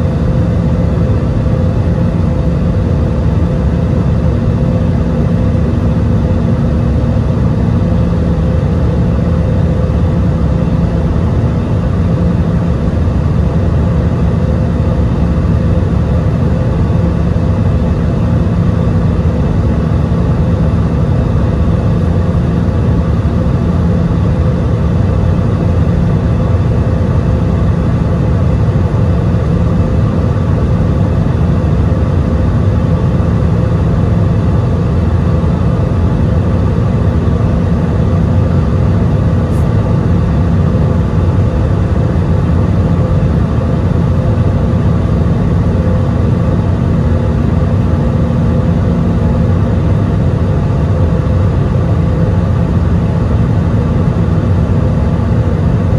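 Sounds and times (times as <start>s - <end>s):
airplane cabin engine rumble: 0.0s - 55.9s
steady humming tones: 0.0s - 55.9s.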